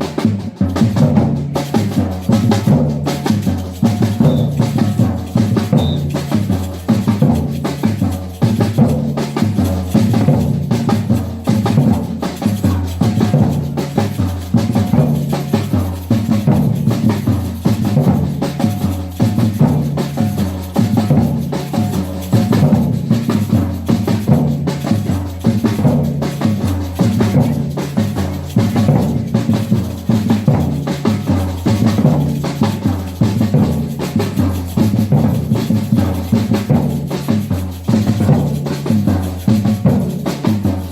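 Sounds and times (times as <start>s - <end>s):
snare and higher drums: 0.0s - 40.9s.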